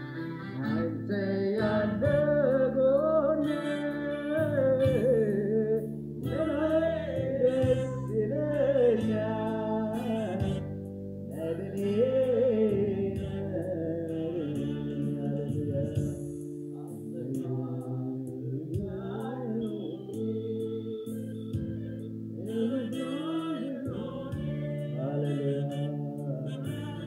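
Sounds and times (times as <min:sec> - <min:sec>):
electronic keyboard chords: 0:00.0 - 0:27.0
person singing into microphone: 0:00.0 - 0:27.0.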